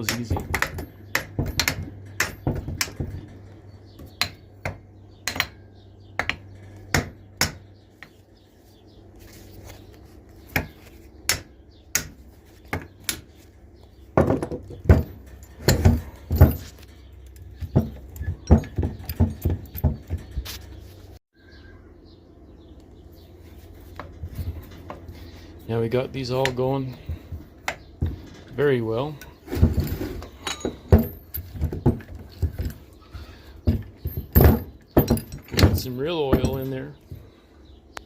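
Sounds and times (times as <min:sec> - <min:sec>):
metal parts clicking and clacking: 0:00.0 - 0:08.2, 0:10.4 - 0:21.0, 0:23.8 - 0:37.2
low steady hum: 0:00.0 - 0:38.0.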